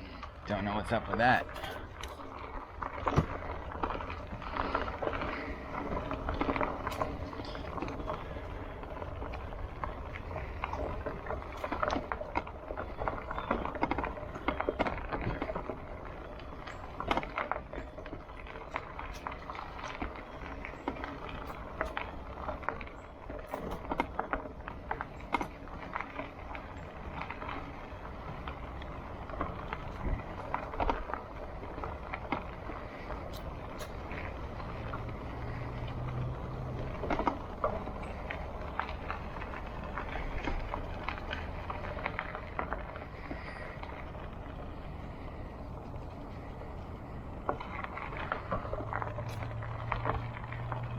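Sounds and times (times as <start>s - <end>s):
bicycle rattles and knocks: 0.0s - 50.9s
bicycle tyres rumbling on dirt: 0.0s - 50.9s.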